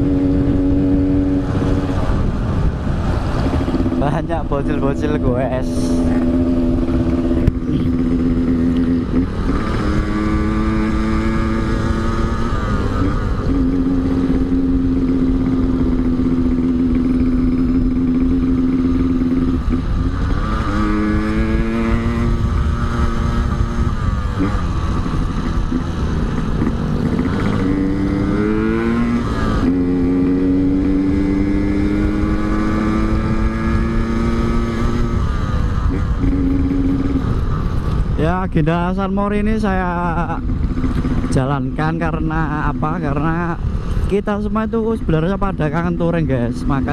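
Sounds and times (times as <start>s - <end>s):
motorcycle engine shifting gears: 0.0s - 38.3s, 39.4s - 46.9s
wind rumble on microphone: 0.0s - 46.9s.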